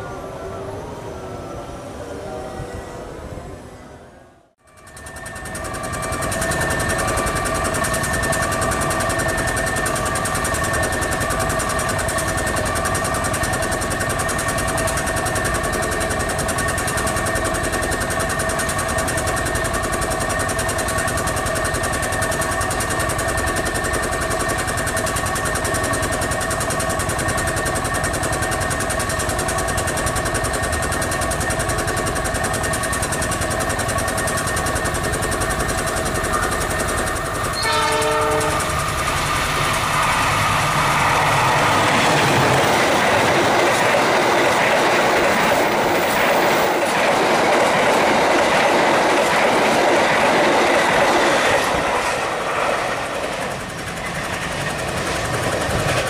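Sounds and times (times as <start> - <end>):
constant high tones: 0.0 - 56.0
diesel locomotive clatter: 4.5 - 56.0.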